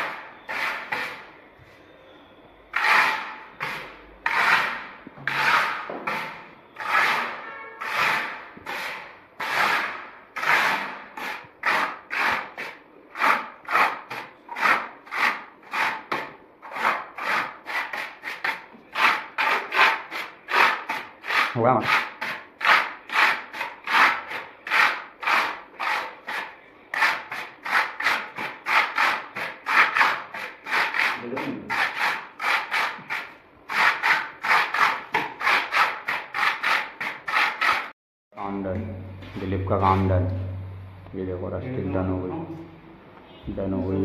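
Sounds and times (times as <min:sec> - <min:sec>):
plastic float scraping wet wall: 0:00.0 - 0:01.3, 0:02.7 - 0:37.9.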